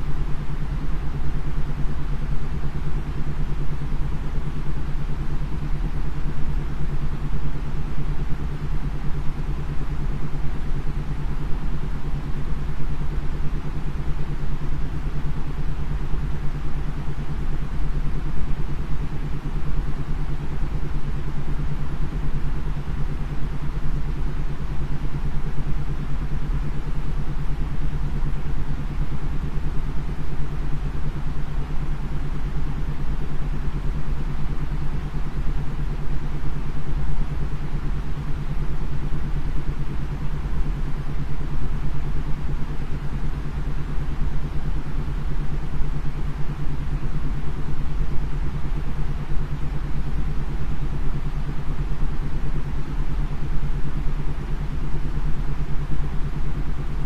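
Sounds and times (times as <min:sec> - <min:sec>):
low white noise: 0:00.0 - 0:57.0.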